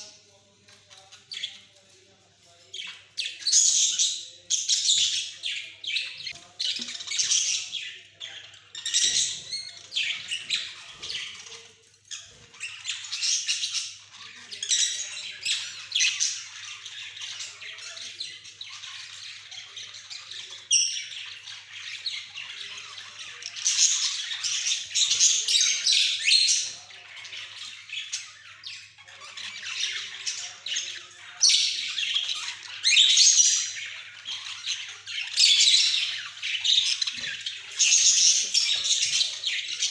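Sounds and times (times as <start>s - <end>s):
budgerigars chattering: 2.7s - 39.9s.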